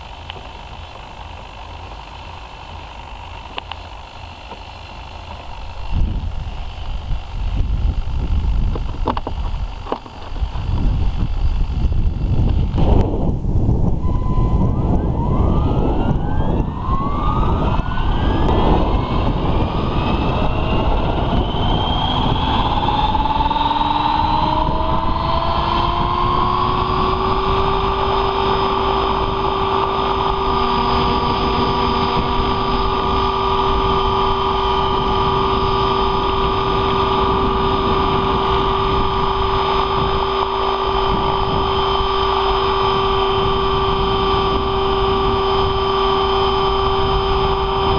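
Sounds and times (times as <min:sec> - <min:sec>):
model helicopter rotor whine: 0:00.0 - 0:47.9
wind rumbling on microphone: 0:05.1 - 0:47.9.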